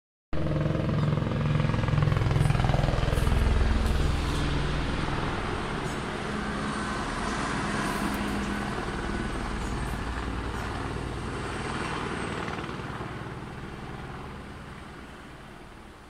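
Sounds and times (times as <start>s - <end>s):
helicopter rotor and engine: 0.4s - 16.0s.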